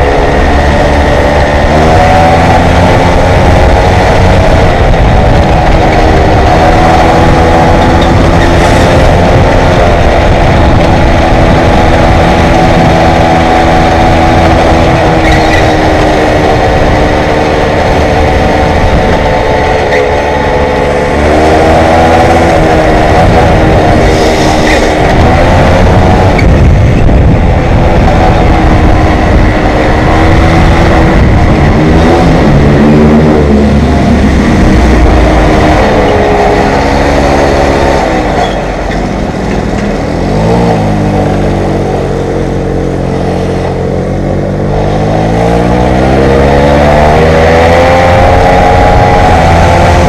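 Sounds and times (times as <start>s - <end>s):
moped engine running: 0.0s - 50.0s.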